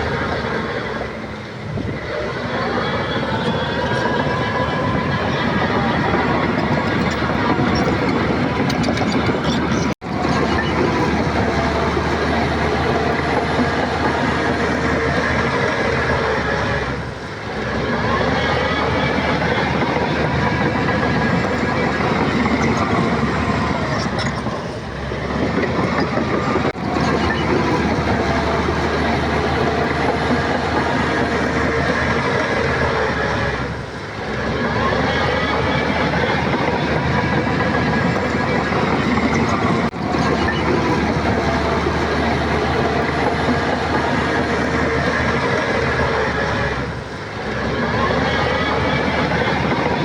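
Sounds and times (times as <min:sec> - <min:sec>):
diesel engine running: 0:00.0 - 0:50.0
steel tracks rattling: 0:00.0 - 0:50.0.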